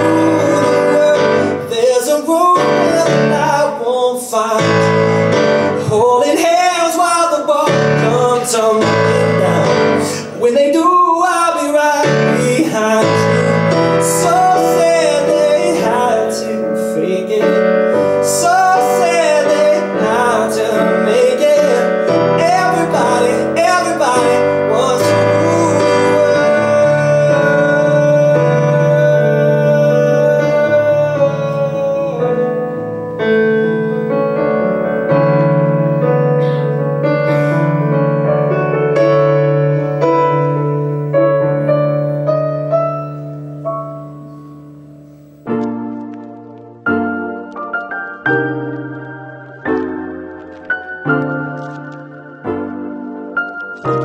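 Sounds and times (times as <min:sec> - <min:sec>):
man singing: 0:00.0 - 0:43.5
guitar: 0:00.0 - 0:54.0
piano: 0:00.0 - 0:54.0.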